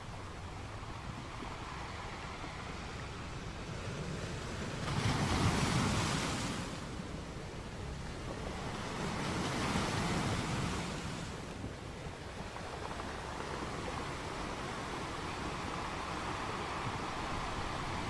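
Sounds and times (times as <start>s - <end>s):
steady rush of water: 0.0s - 18.0s
waves breaking on shore: 0.0s - 18.0s.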